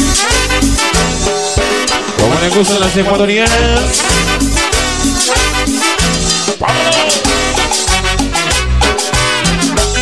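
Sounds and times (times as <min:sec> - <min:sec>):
cumbia dance music: 0:00.0 - 0:10.0.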